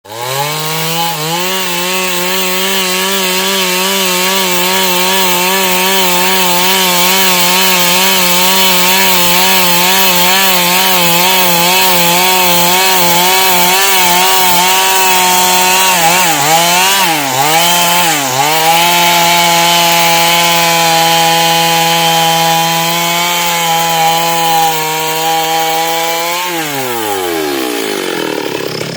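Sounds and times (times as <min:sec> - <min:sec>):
chainsaw sawing wood: 0:00.0 - 0:28.9.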